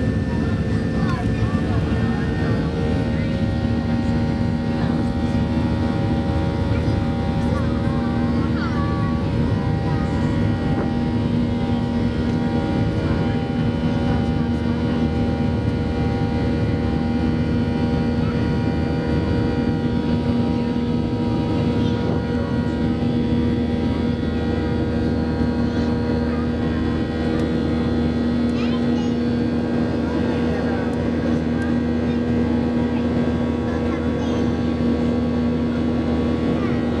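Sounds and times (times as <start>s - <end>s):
engine whining tones: 0.0s - 37.0s
jet engine drone in cabin: 0.0s - 37.0s.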